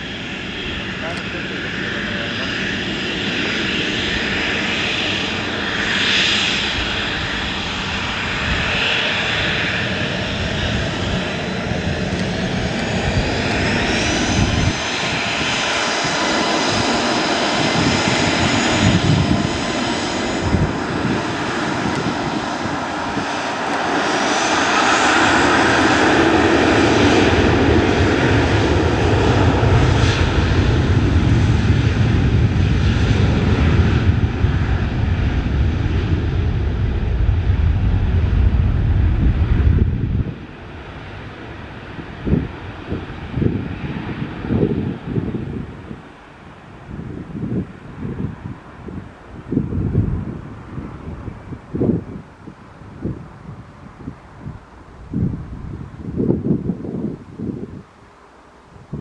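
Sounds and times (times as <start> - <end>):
airliner engines running: 0.0 - 59.0.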